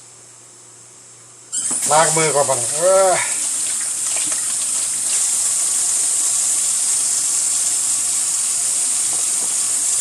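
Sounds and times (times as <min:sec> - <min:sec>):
tap water running into sink: 0:01.6 - 0:10.0.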